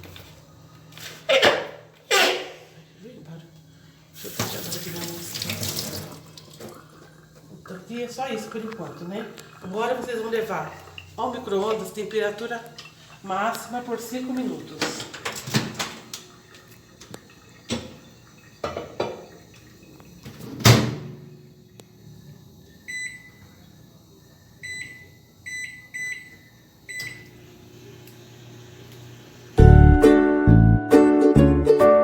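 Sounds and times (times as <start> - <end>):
microwave oven humming: 0.0 - 31.3.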